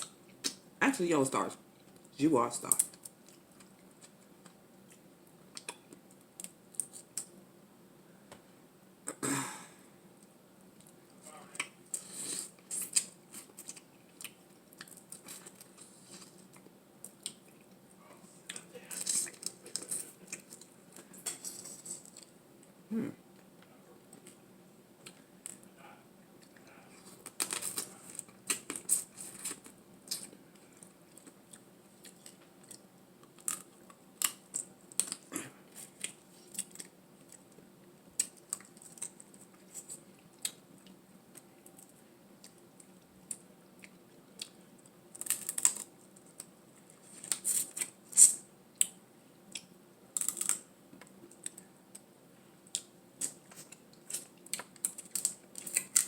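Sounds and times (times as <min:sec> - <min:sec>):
person chewing food: 0:02.8 - 0:07.4, 0:10.7 - 0:22.3, 0:25.0 - 0:56.0.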